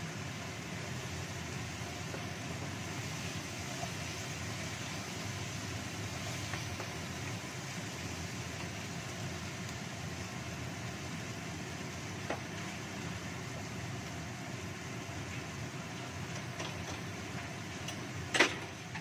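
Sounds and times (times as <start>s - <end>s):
spice paste sizzling in a wok: 0.0s - 19.0s.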